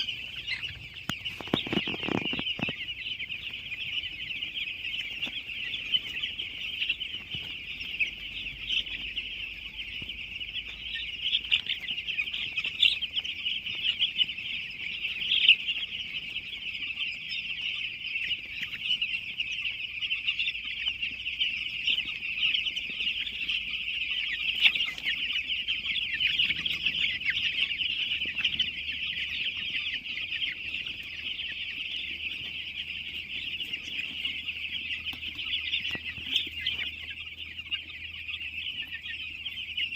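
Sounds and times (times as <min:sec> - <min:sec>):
chickens calling: 0:00.0 - 0:39.9.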